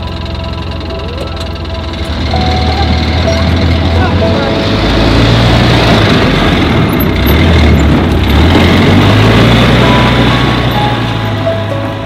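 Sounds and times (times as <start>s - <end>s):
utility vehicle engine driving off: 0.0s - 12.0s.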